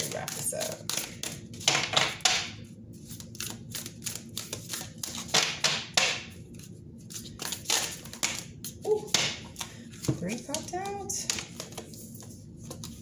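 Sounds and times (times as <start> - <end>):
cards being shuffled: 0.0 - 2.2, 3.0 - 5.6, 6.5 - 13.0.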